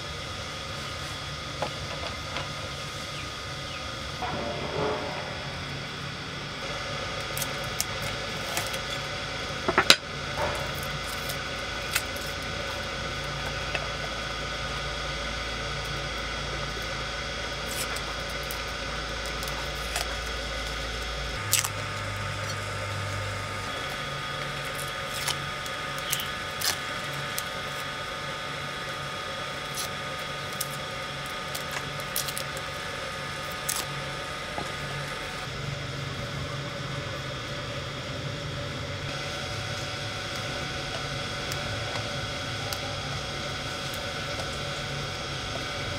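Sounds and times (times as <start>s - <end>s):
background hiss and hum: 0.0s - 45.9s.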